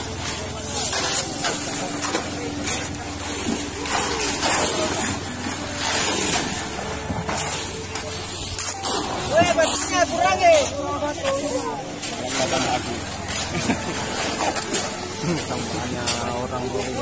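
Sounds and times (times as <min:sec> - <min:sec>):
motor hum: 0:00.0 - 0:17.0
wet concrete scraping and splashing: 0:00.0 - 0:17.0.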